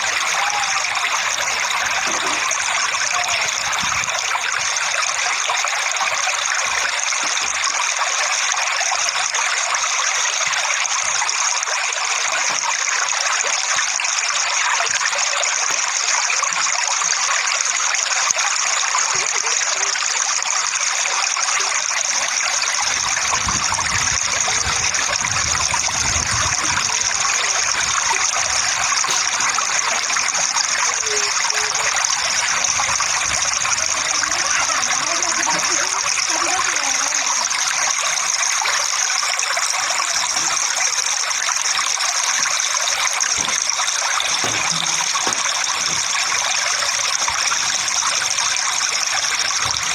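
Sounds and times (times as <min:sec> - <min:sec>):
water rushing: 0:00.0 - 0:49.9.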